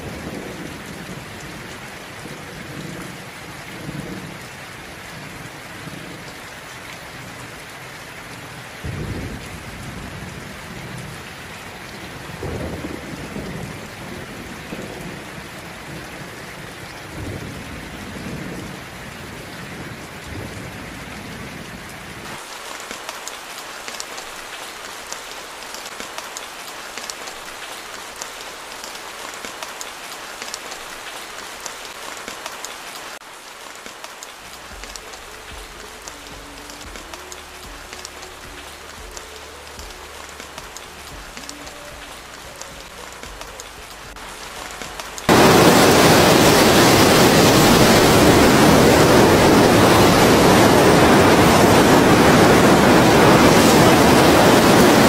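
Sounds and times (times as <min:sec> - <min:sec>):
heavy rain: 0:00.0 - 0:55.0
rain pattering on hard surfaces: 0:00.0 - 0:55.0.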